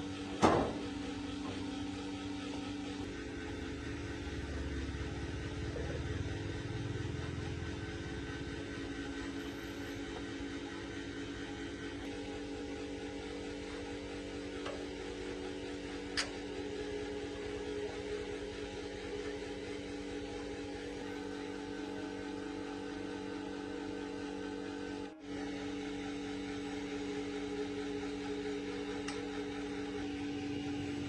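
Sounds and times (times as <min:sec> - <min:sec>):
electric motor humming: 0:00.0 - 0:31.0.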